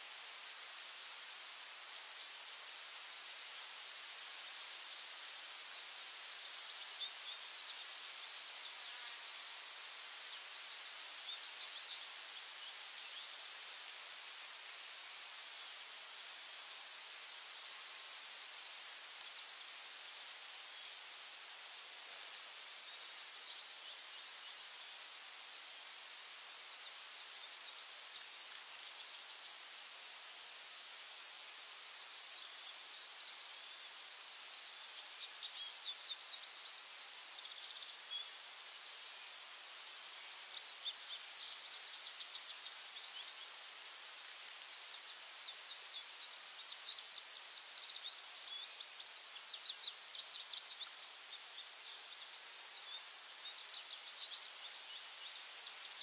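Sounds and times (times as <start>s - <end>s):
high insect drone: 0.0s - 56.0s
hiss: 0.0s - 56.0s.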